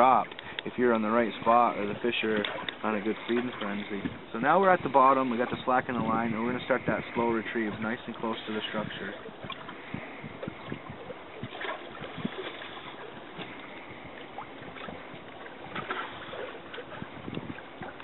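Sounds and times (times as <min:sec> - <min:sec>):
water lapping against boat: 0:00.0 - 0:18.0.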